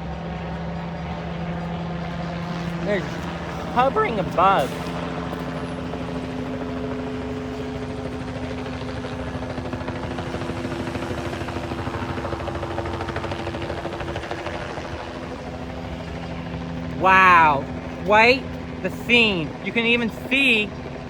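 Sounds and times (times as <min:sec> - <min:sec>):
helicopter rotor chop: 0:00.0 - 0:21.0.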